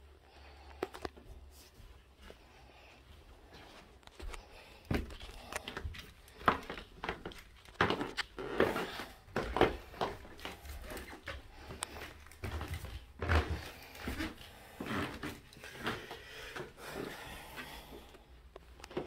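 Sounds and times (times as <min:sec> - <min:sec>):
footsteps on carpeted stairs: 0:01.1 - 0:18.1.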